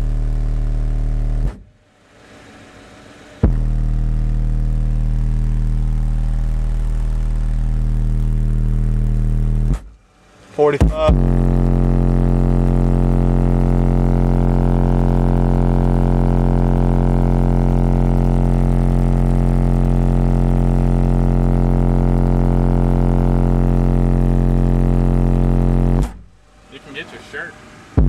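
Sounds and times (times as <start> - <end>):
loud low bass tone: 0.0 - 1.8, 3.4 - 10.0, 10.6 - 26.9.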